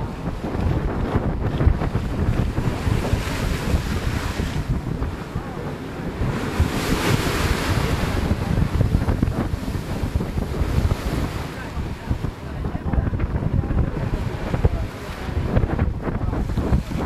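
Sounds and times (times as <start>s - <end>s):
sea noise: 0.0s - 17.0s
wind buffeting microphone: 0.0s - 17.0s.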